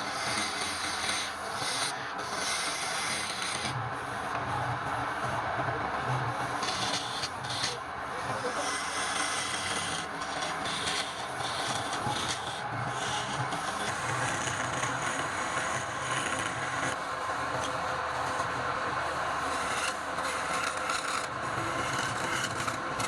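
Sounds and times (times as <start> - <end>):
tool scraping spinning wood: 0.0 - 4.4, 6.4 - 23.0.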